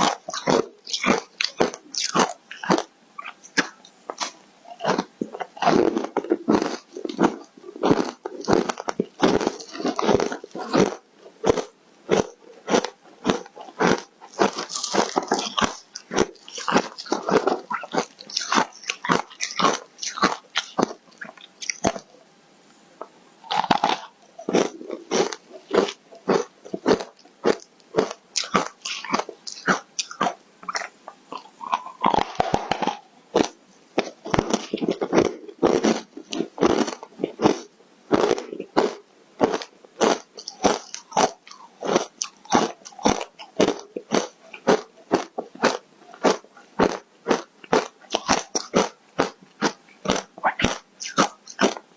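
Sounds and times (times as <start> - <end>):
ice crunching being chewed: 0.0 - 22.1, 23.4 - 51.9.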